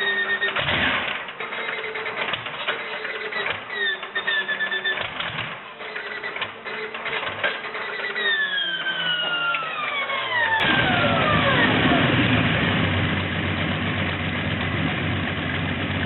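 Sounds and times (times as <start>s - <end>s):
high mechanical whine: 0.0s - 16.0s
tractor engine starting: 0.0s - 16.0s.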